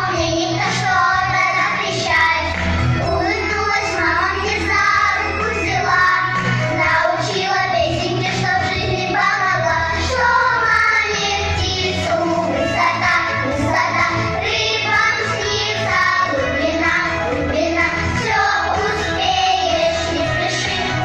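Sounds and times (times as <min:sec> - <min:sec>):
child singing: 0:00.0 - 0:21.0.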